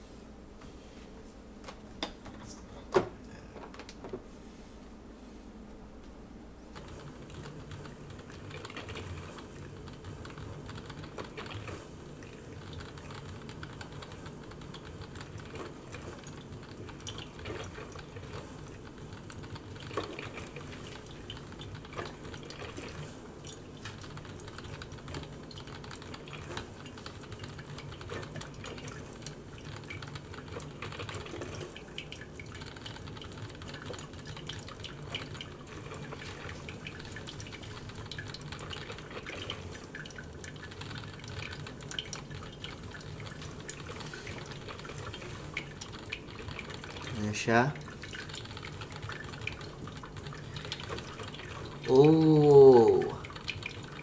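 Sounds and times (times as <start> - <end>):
coffee maker dripping: 6.8 - 54.0.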